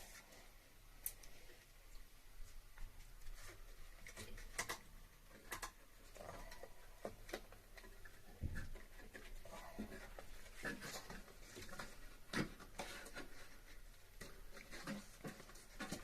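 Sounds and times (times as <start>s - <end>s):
rustling of wrapping: 2.4s - 16.0s
hands clicking and tapping pipes: 2.7s - 16.0s.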